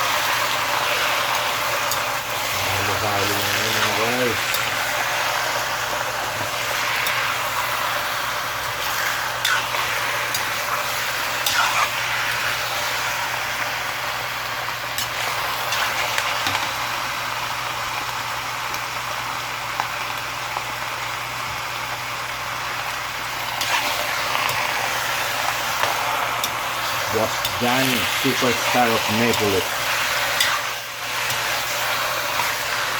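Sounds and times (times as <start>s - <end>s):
chicken sizzling in a pan: 0.0s - 32.9s.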